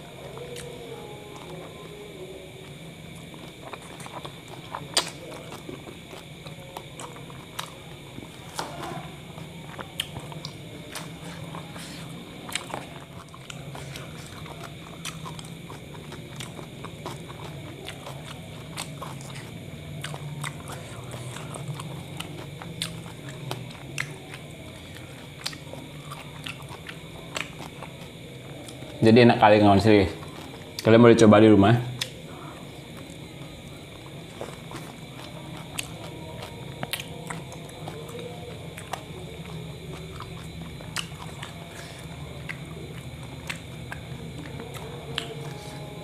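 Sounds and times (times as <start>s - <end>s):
biting and chewing food: 0.0s - 31.0s, 32.0s - 46.0s
steady low hum: 0.0s - 46.0s.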